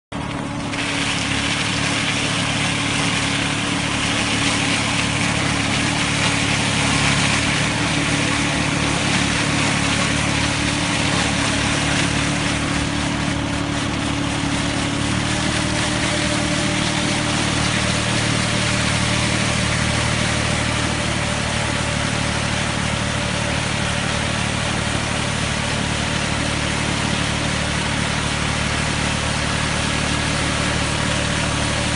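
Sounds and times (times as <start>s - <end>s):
tractor engine running: 0.1s - 31.9s
rotating trimmer disc cutting grass: 0.2s - 31.9s.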